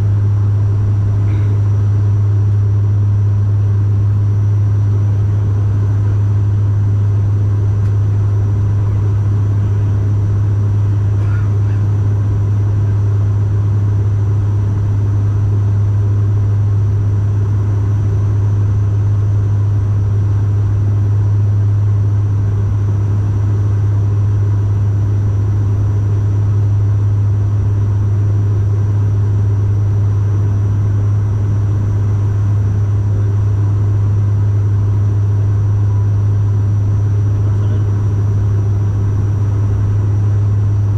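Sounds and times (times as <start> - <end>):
propeller drone in cabin: 0.0 - 40.9.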